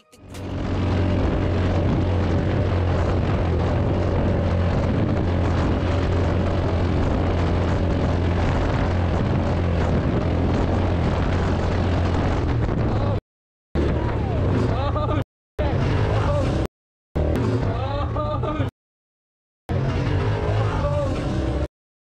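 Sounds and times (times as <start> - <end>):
off-road vehicle engine running: 0.1 - 13.2, 13.8 - 18.7, 19.7 - 21.7.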